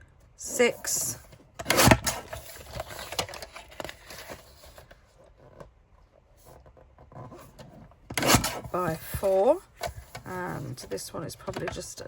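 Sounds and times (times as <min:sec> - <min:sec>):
cardstock rustling and scraping: 0:00.6 - 0:05.7, 0:06.4 - 0:11.9.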